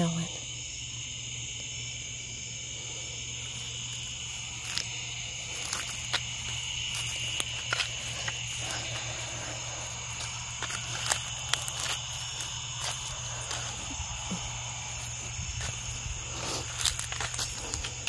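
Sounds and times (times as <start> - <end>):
crickets and insects chirping: 0.0 - 18.0
footsteps on grass and leaves: 3.1 - 18.0.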